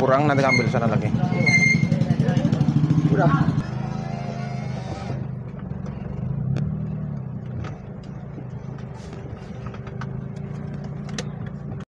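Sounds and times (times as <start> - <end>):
car engine hum from inside: 0.0 - 11.8.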